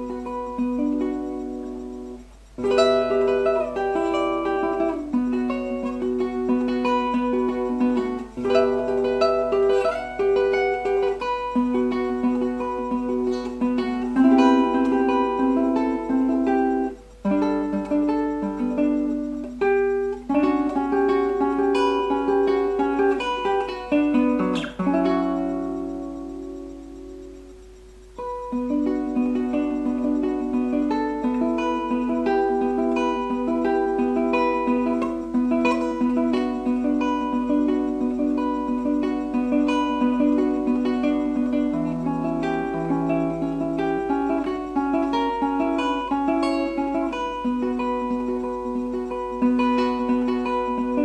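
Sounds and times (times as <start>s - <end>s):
plucked string instrument melody: 0.0s - 51.0s.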